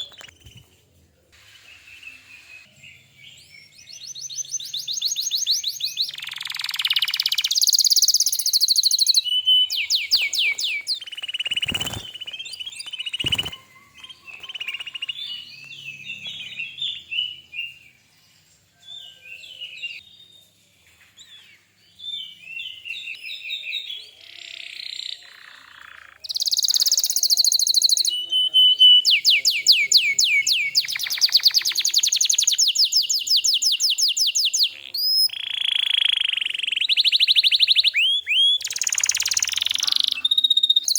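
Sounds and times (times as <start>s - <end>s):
canary singing trills: 0.0s - 0.7s, 1.6s - 20.4s, 21.0s - 40.9s.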